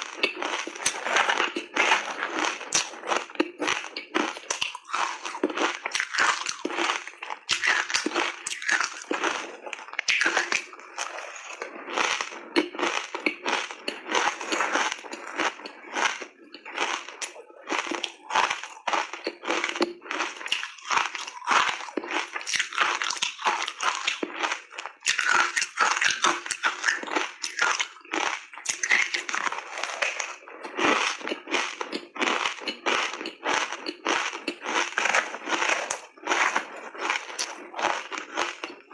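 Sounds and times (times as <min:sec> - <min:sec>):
crunching ice: 0:00.0 - 0:38.9.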